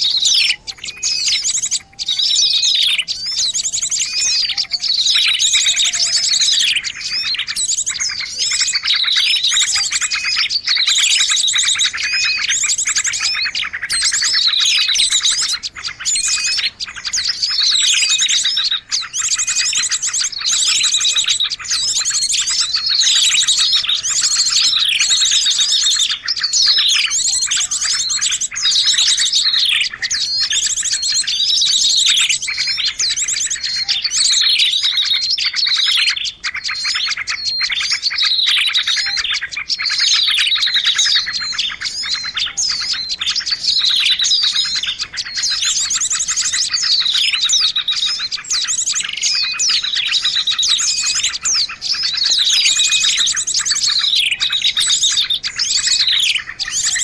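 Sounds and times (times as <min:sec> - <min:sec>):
falling bird call: 0:00.0 - 0:57.0
small birds chirping and twittering: 0:00.0 - 0:57.0.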